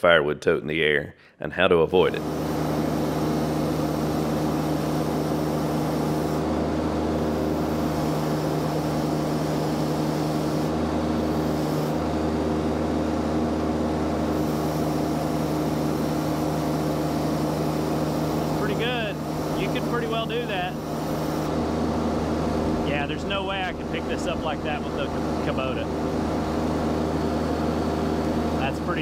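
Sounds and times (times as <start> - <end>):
skid steer engine humming: 2.2 - 29.0.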